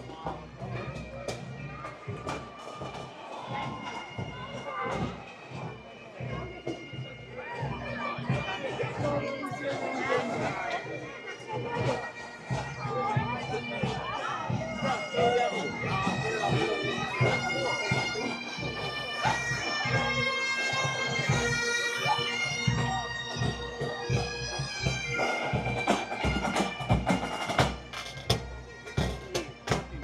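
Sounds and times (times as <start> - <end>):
bagpipes playing melody with drone: 0.0 - 30.0
drums beating: 0.0 - 30.0.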